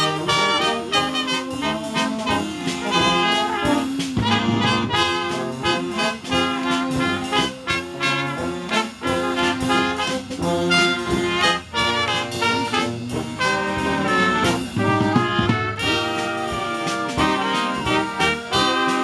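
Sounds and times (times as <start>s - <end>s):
accordion: 0.0s - 19.0s
brass band playing polka: 0.0s - 19.0s
trumpets: 0.0s - 19.0s
tuba: 0.0s - 19.0s.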